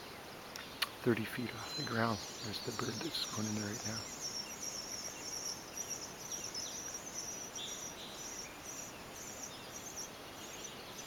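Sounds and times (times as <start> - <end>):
nestlings chirping: 0.5 - 11.0.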